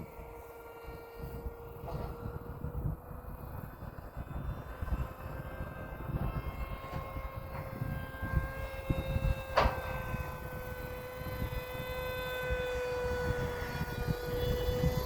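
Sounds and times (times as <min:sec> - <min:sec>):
high engine whine: 0:00.0 - 0:15.0.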